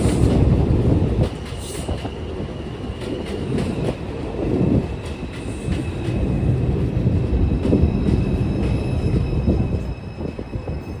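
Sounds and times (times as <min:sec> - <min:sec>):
high train whine: 0:00.0 - 0:11.0
train wheels rumbling on rail: 0:00.0 - 0:11.0.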